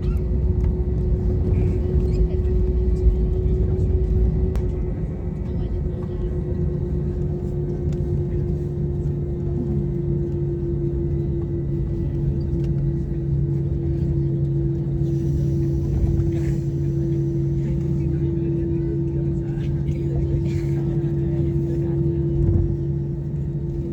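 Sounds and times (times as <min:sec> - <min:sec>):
jet engines humming in cabin: 0:00.0 - 0:23.9.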